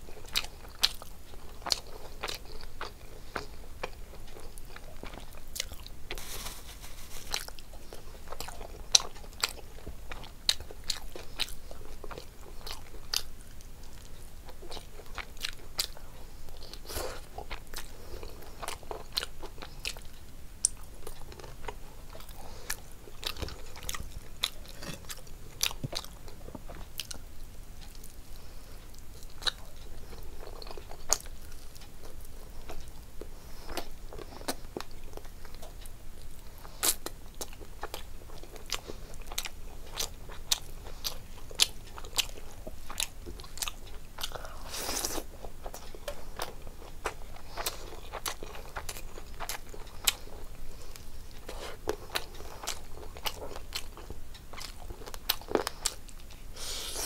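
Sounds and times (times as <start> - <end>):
person chewing crunchy food: 0.1 - 57.0.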